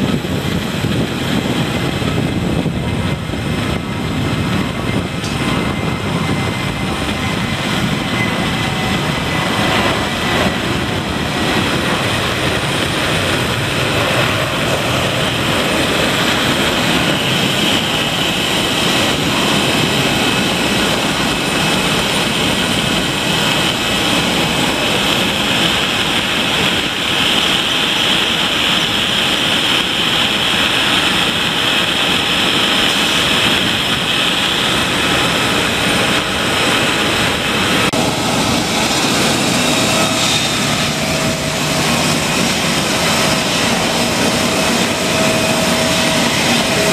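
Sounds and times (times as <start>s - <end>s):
high jet whine: 0.0s - 46.9s
jet engine roar: 0.0s - 46.9s.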